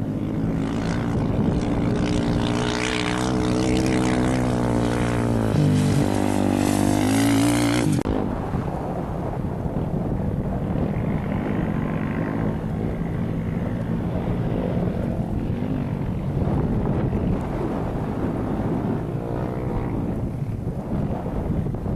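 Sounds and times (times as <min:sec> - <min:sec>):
distant engine drone: 0:00.0 - 0:21.9
wind rumbling on microphone: 0:00.0 - 0:21.9.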